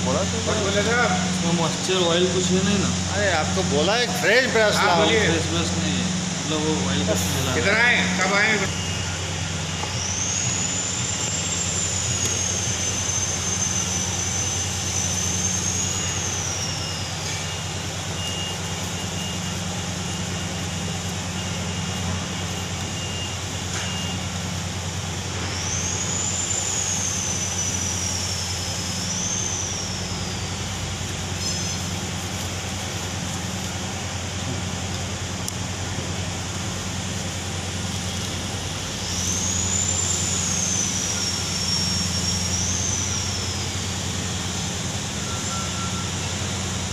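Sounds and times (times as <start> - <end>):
high whistling tone: 0.0 - 34.4, 36.9 - 46.9
machinery drone: 0.0 - 46.9.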